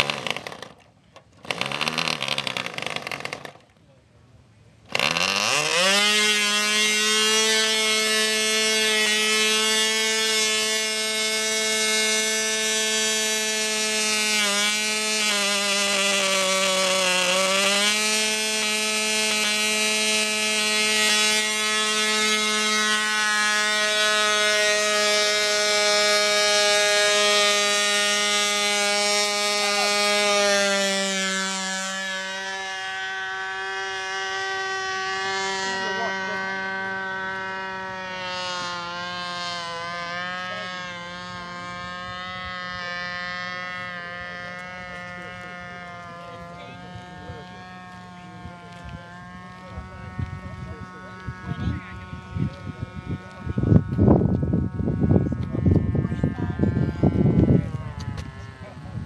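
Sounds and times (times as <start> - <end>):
model airplane engine whining: 0.0 - 59.0.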